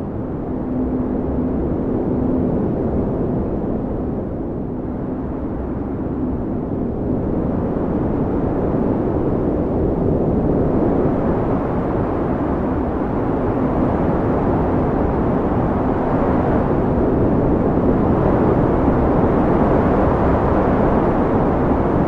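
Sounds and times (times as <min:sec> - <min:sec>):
blizzard wind rushing: 0:00.0 - 0:22.0.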